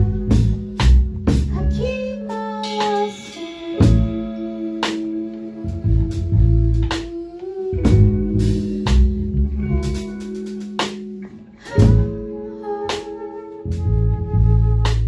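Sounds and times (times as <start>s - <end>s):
live band playing: 0.0s - 15.0s
sliding held melody note: 0.0s - 15.0s.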